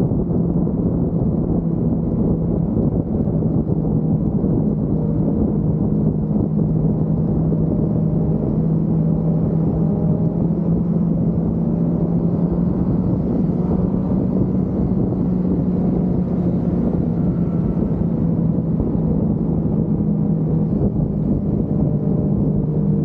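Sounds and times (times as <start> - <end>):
motorcycle engine humming: 0.0 - 23.0
rushing wind: 0.0 - 23.0.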